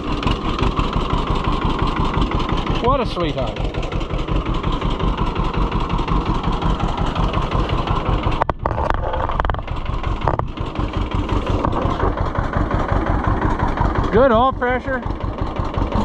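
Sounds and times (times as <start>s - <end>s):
two-cylinder engine idling: 0.0s - 16.0s.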